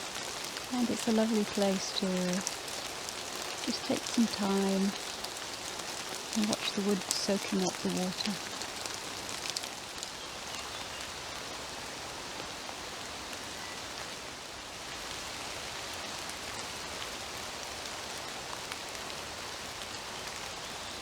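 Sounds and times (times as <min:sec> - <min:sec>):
gentle rain falling: 0:00.0 - 0:21.0
water dripping from trees: 0:00.0 - 0:21.0.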